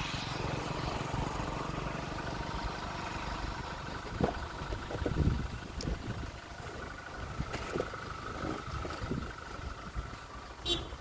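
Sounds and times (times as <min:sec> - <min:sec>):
vehicle engine and road hum: 0:00.0 - 0:11.0.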